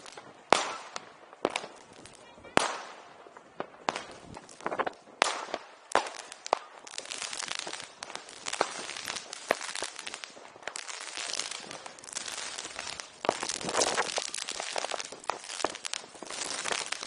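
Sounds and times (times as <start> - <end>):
firecrackers banging and crackling: 0.0 - 17.0.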